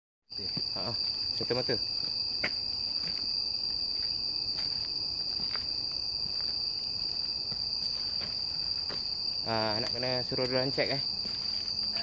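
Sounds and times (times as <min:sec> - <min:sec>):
night insects chorus: 0:00.3 - 0:12.0
soft footsteps on path: 0:00.3 - 0:12.0.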